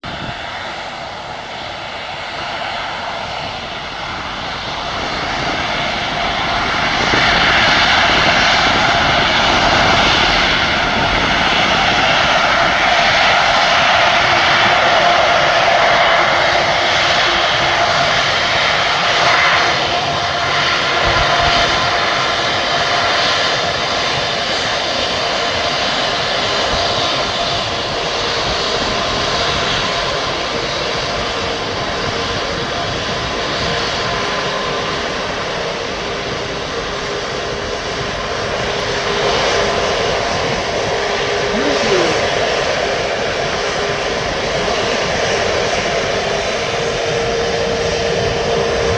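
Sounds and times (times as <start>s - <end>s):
jet engines roaring: 0.1s - 48.9s.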